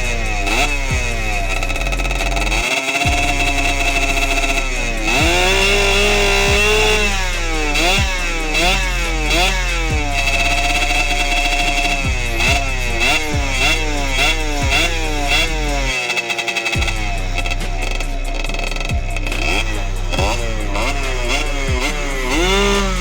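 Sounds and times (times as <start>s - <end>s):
music bass line: 0.0s - 16.0s, 16.8s - 23.0s
two-stroke engine revving: 0.0s - 23.0s.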